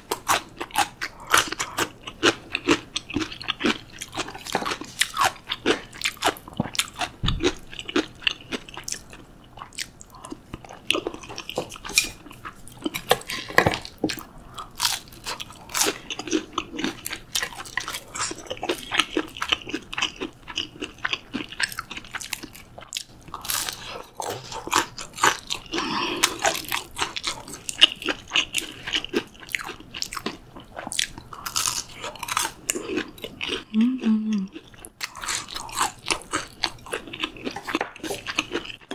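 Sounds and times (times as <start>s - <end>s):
crunchy chewing: 0.1s - 33.8s, 34.5s - 38.9s.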